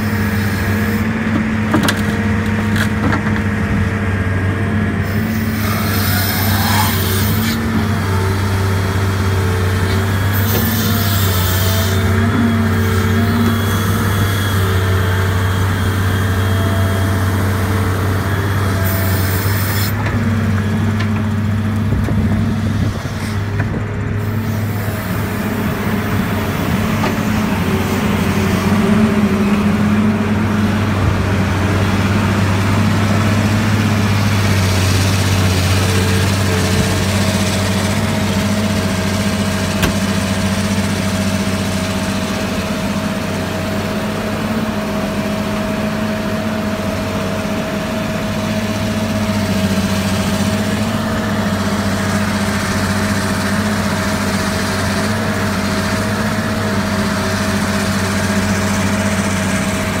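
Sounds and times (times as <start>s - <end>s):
diesel engines running: 0.0s - 60.0s.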